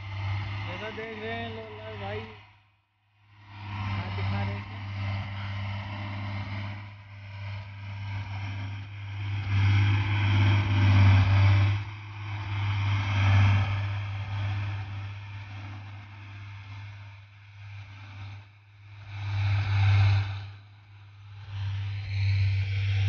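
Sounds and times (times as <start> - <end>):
road roller diesel engine: 0.0 - 23.0.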